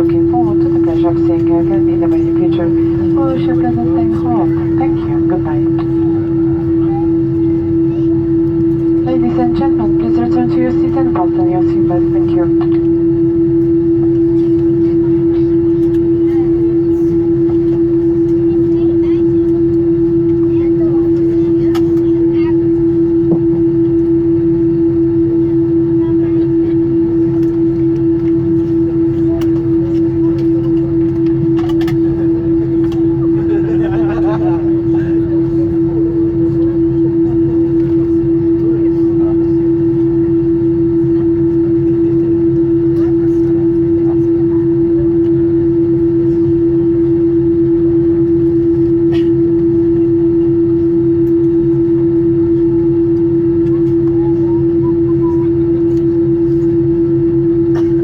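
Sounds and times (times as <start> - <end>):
aircraft cabin hum: 0.0 - 58.0.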